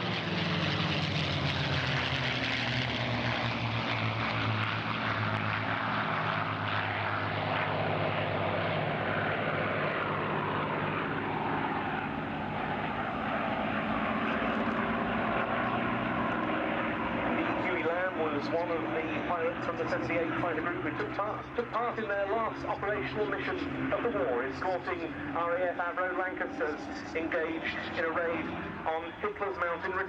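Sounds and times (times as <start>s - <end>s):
propeller planes droning past: 0.0s - 30.0s.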